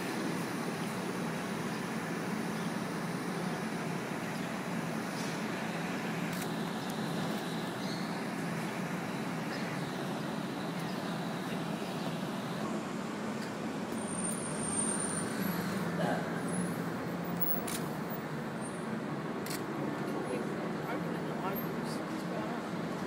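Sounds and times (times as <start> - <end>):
city traffic hum: 0.0 - 23.0.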